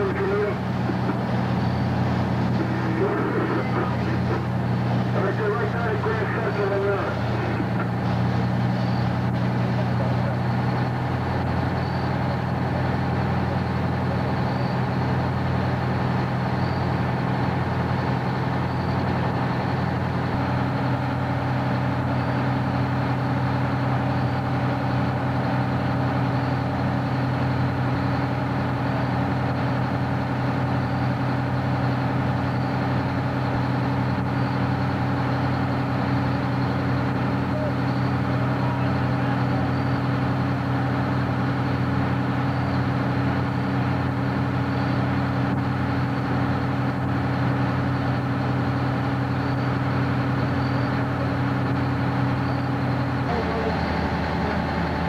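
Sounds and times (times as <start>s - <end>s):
fire engine droning: 0.0s - 55.0s.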